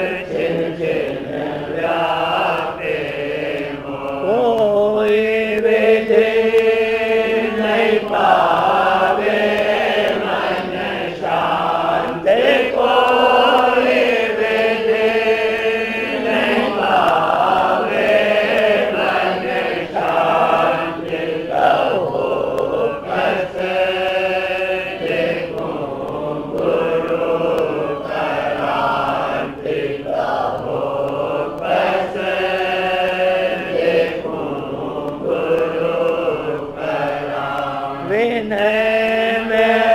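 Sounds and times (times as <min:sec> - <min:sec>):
person chanting a hymn: 0:00.0 - 0:39.9.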